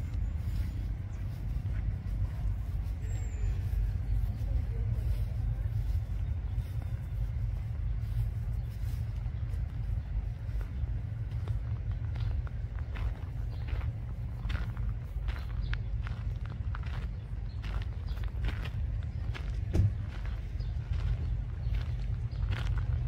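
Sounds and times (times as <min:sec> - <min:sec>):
footsteps on gravel: 0:00.0 - 0:23.0
low outdoor rumble: 0:00.0 - 0:23.0.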